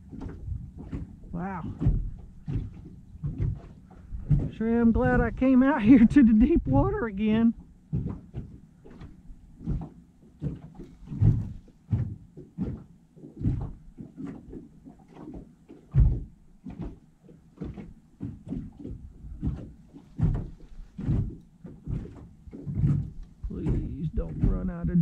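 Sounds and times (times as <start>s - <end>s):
low knocks and thumps: 0.0s - 25.0s.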